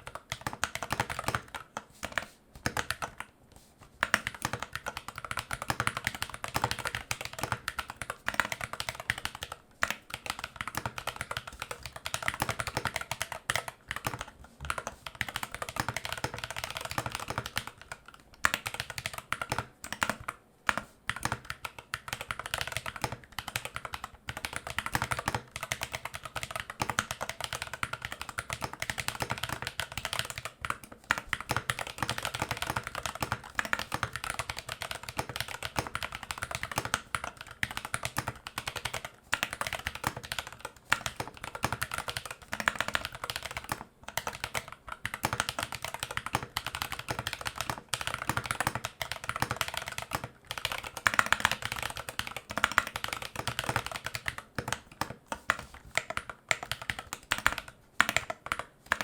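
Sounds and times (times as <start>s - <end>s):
fast mechanical keyboard typing: 0.0s - 3.3s, 4.0s - 59.0s.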